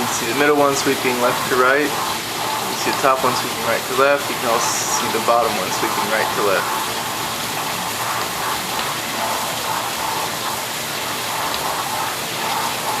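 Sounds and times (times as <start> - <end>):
dishwasher water spraying: 0.0 - 13.0.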